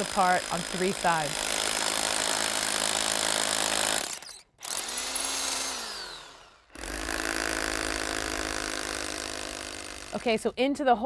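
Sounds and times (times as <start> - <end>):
drill motor whining down: 0.0 - 10.2
hammer drill boring into stone: 0.0 - 10.3.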